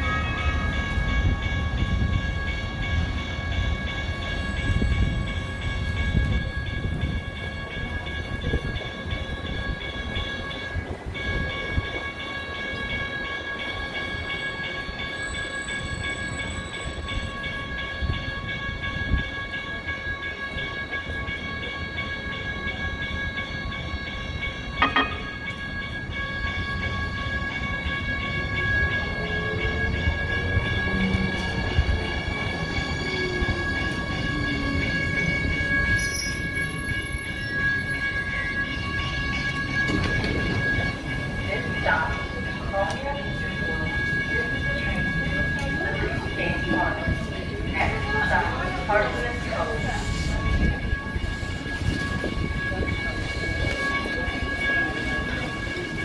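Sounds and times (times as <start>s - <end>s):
light rail car rumble: 0.0s - 56.0s.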